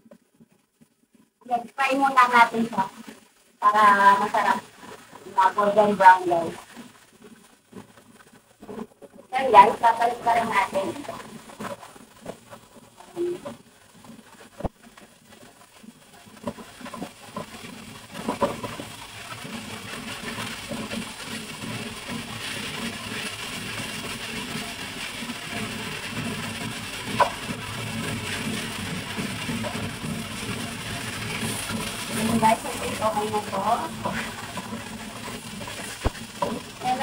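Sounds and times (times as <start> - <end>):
meat frying in oil: 0.0 - 37.0.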